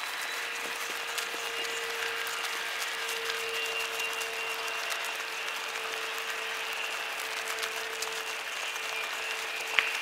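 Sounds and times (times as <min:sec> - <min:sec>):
footsteps crunching through dry grass: 0:00.0 - 0:10.0.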